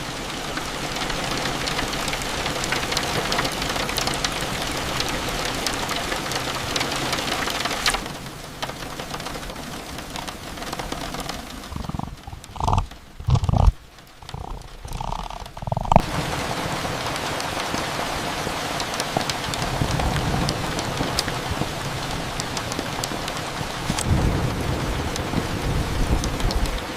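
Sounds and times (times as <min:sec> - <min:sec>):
steady rain falling: 0:00.0 - 0:26.9.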